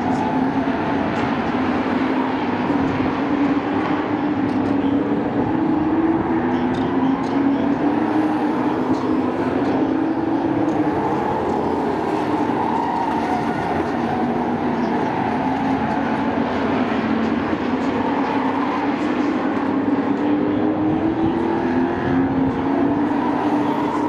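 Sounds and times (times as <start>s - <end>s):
racing truck engines: 0.0s - 24.0s.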